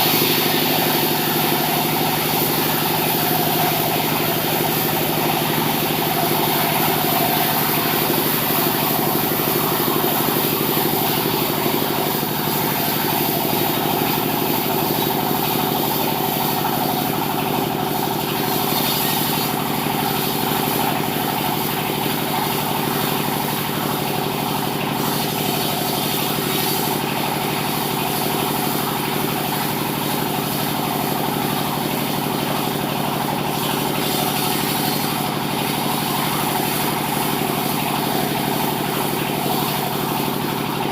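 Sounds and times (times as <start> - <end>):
sawmill machinery hum: 0.0 - 40.9.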